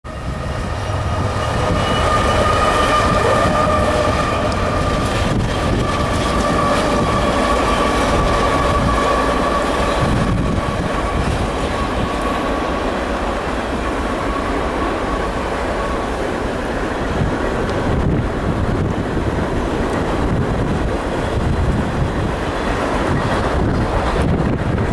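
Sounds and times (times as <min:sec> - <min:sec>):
diesel locomotives rumbling: 0:00.0 - 0:24.9
freight cars rolling with whine: 0:00.0 - 0:24.9.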